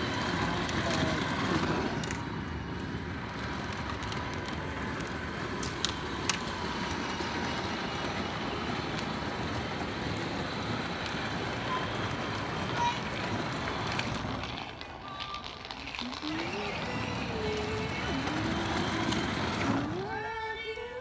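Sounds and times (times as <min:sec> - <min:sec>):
toy car wheels rolling on concrete: 0:00.0 - 0:21.0.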